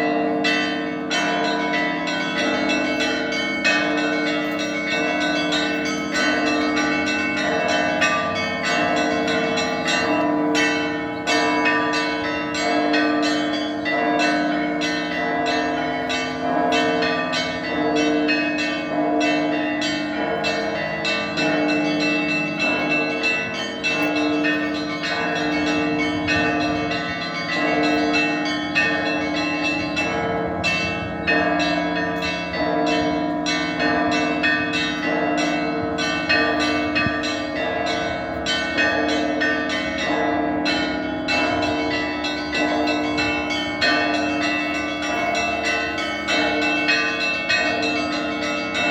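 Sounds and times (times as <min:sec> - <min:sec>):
deep bells tolling: 0:00.0 - 0:48.9.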